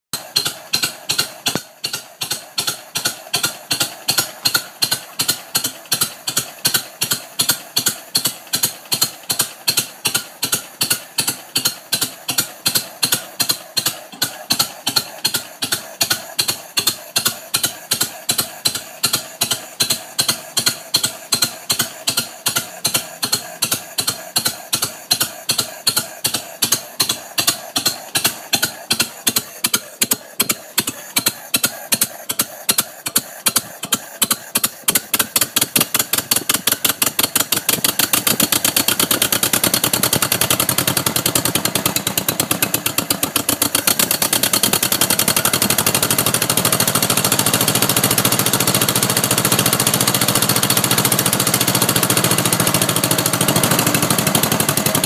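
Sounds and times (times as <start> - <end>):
exhaust popping: 0.1 - 55.0
tractor engine idling: 0.1 - 55.0.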